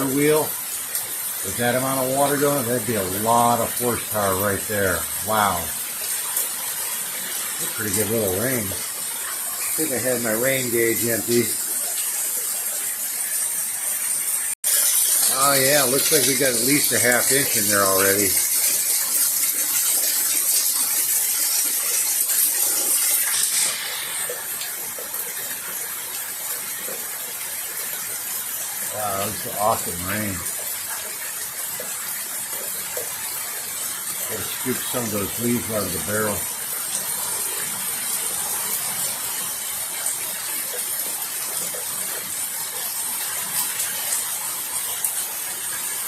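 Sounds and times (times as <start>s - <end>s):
heavy rain: 0.0s - 46.0s
water pouring and splashing: 0.0s - 46.0s.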